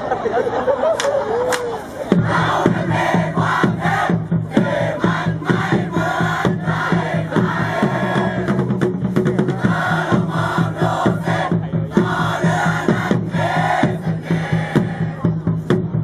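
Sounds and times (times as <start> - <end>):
crowd chanting and singing: 1.7 - 16.0
steady drum beat: 2.1 - 16.0.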